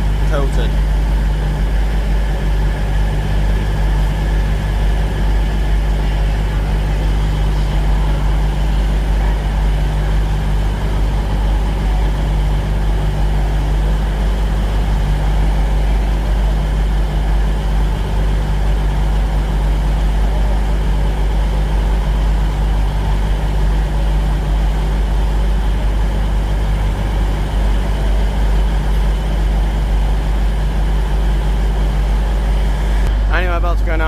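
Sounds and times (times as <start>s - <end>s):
diesel train engine idling: 0.0s - 34.0s.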